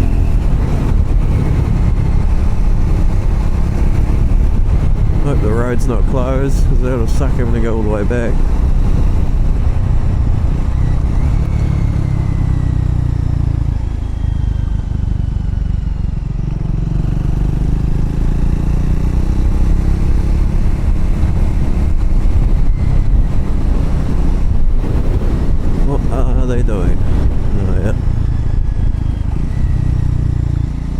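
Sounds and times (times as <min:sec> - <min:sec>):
motorcycle engine rumbling: 0:00.0 - 0:30.9.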